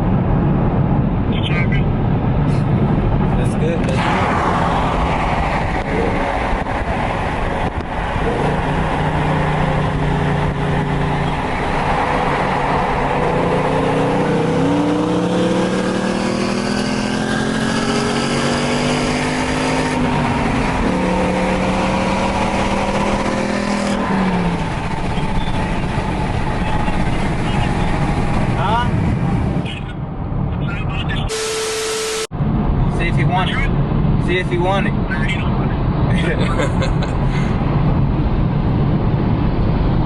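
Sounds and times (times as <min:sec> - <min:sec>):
car engine accelerating: 0:00.0 - 0:40.0
road noise: 0:00.0 - 0:40.0.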